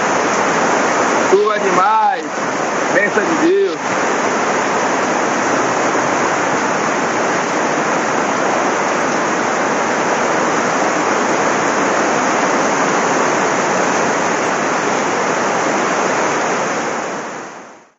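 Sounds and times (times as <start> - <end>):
floodwater rushing: 0.0 - 17.9
heavy rain: 0.0 - 17.9.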